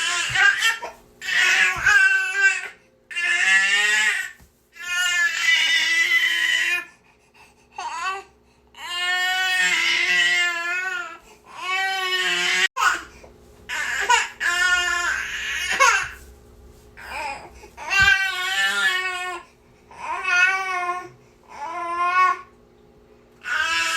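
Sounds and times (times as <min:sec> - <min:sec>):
baby crying: 0:00.0 - 0:06.9, 0:07.8 - 0:13.1, 0:13.7 - 0:16.2, 0:17.0 - 0:22.5.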